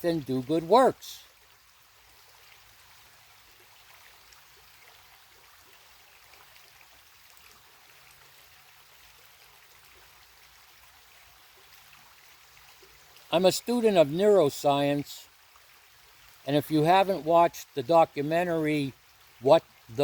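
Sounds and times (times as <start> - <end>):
creek trickling and babbling: 0.0 - 20.0.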